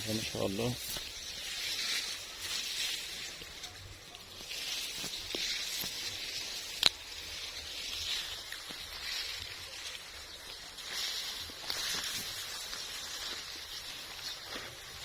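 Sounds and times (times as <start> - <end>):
wheat crop rustling: 0.0 - 15.0.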